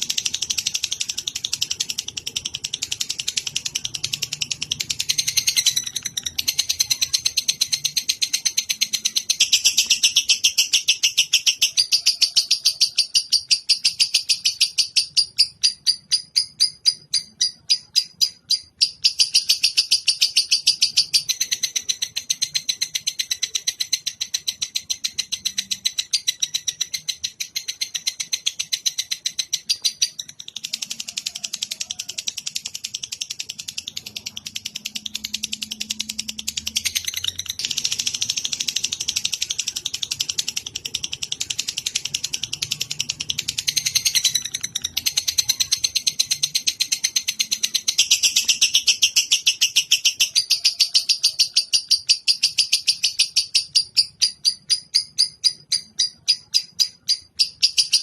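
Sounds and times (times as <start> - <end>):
bird chirping rapidly: 0.0 - 58.0.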